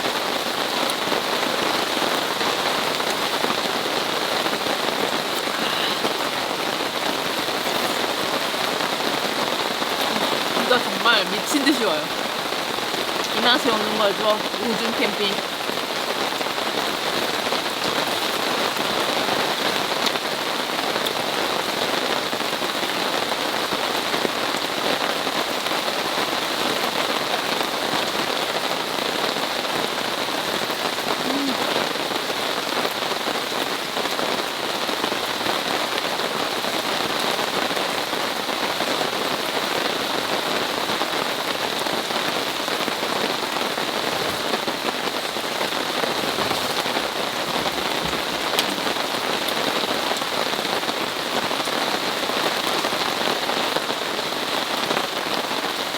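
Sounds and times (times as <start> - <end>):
heavy rain on tarp: 0.0 - 55.9.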